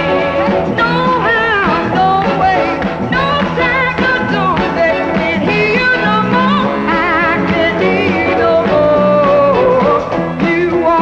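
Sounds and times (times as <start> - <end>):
band with steady beat: 0.0 - 11.0
person singing with vibrato: 0.0 - 11.0.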